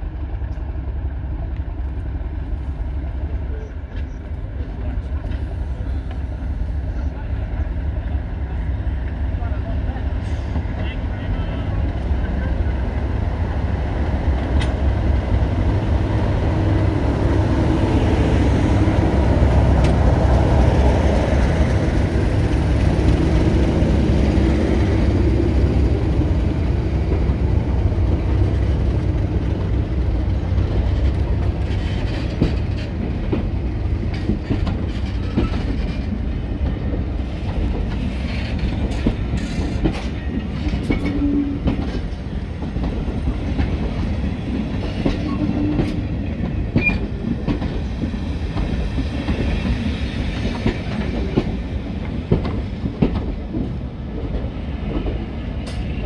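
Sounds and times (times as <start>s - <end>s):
diesel train engine rumble: 0.0s - 56.0s.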